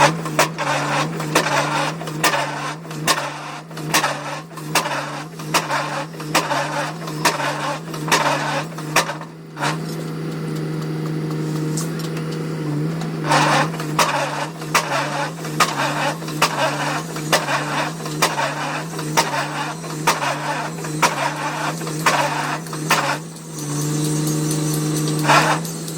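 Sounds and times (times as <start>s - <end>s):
excavator engine hum: 0.0s - 25.9s.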